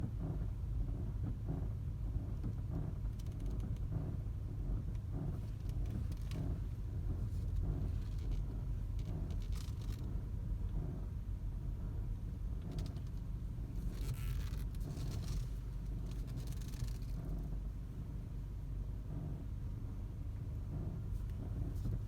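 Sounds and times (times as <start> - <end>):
car rumble with repeating pulse: 0.0 - 22.0.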